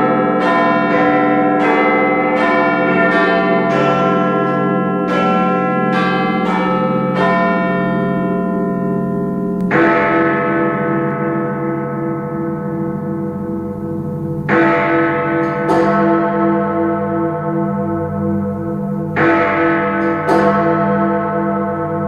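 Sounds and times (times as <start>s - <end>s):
clock tower bells ringing: 0.0s - 22.0s.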